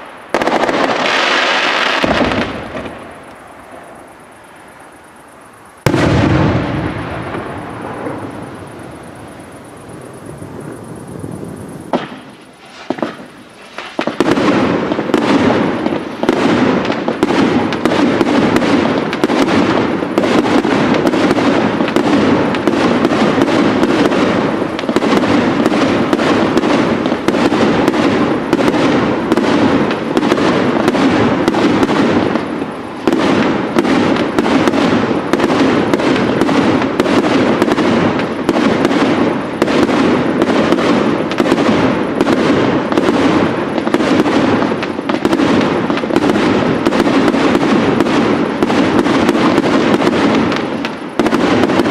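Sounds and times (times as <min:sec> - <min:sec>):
fireworks popping and crackling: 0:00.0 - 0:51.9.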